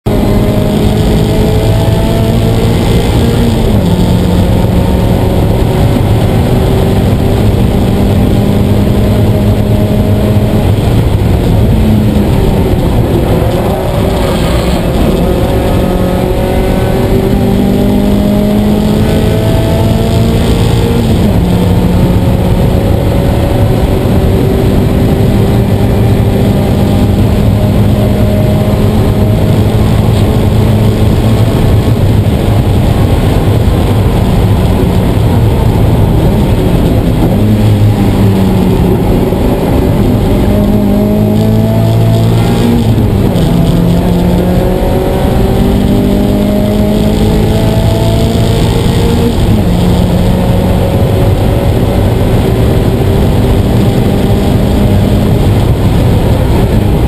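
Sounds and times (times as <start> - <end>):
car engine revving hard: 0.0 - 57.0
road and wind noise: 0.0 - 57.0.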